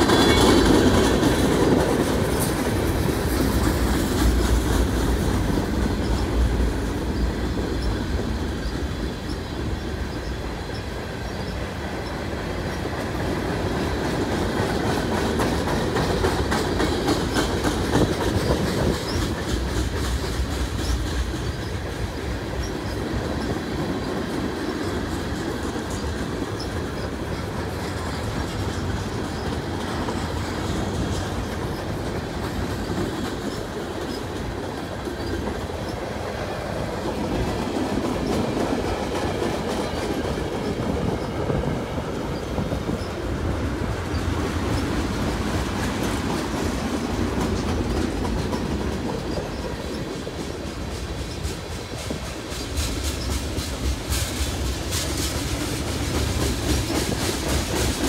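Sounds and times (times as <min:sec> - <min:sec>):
wheels clicking over rail joints: 0:00.0 - 0:58.0.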